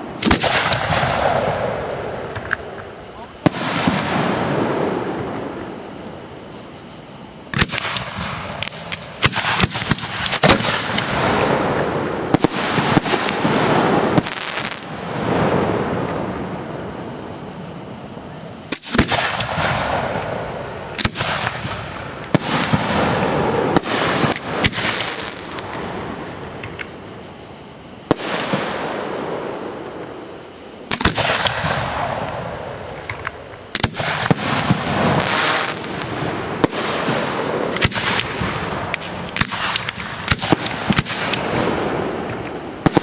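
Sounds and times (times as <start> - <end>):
fireworks bangs: 0.0 - 43.0
fireworks crackling: 0.0 - 43.0.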